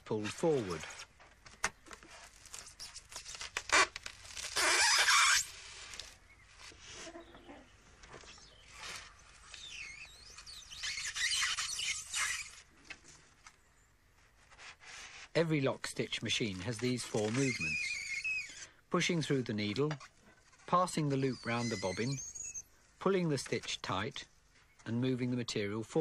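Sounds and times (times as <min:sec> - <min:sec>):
polystyrene squeaking and rasping: 0:00.0 - 0:13.5, 0:14.1 - 0:24.6.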